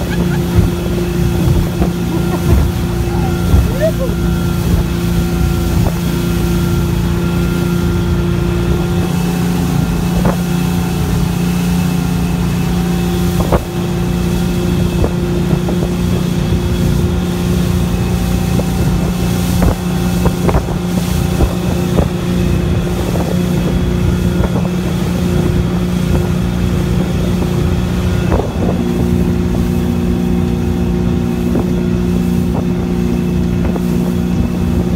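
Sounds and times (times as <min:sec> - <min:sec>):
rushing water: 0:00.0 - 0:34.9
speedboat engine running: 0:00.0 - 0:34.9
wind: 0:00.0 - 0:34.9.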